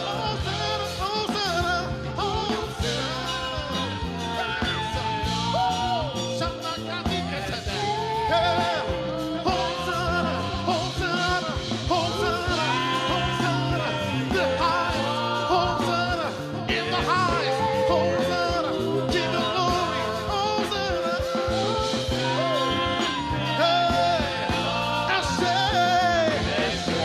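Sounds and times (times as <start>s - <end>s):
gospel singing with band: 0.0s - 27.0s.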